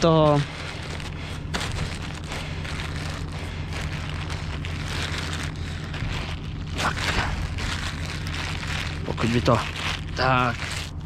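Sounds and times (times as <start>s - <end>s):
rough crackling noise: 0.0s - 11.0s
tractor engine idling: 0.0s - 11.0s.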